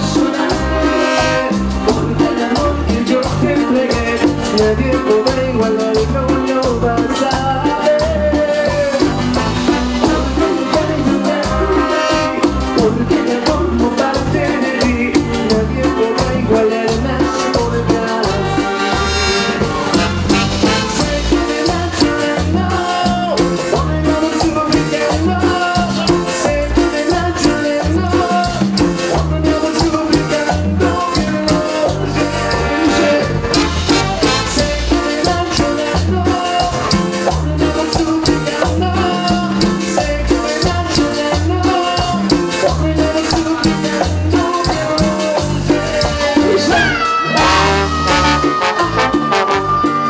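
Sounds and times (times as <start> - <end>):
accordion: 0.0 - 50.0
congas: 0.0 - 50.0
latin dance band playing: 0.0 - 50.0.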